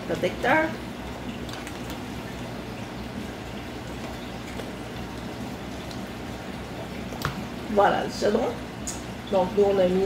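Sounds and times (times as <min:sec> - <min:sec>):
aquarium filter trickling and humming: 0:00.0 - 0:10.0.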